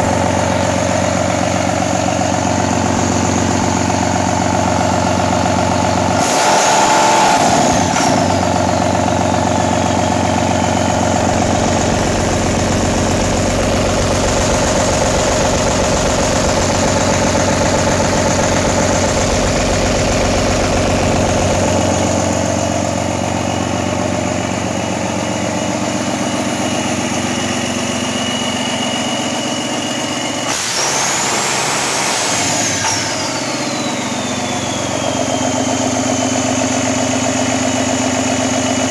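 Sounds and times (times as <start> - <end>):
diesel engine running and revving: 0.0 - 38.9
turbocharger whine: 0.0 - 38.9.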